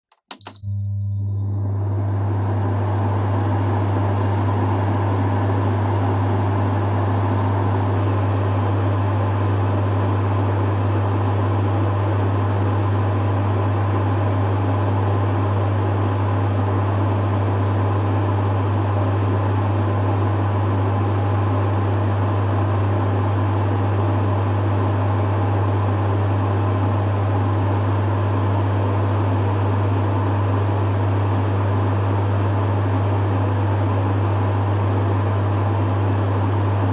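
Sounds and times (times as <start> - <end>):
compressor hum: 0.2 - 36.9.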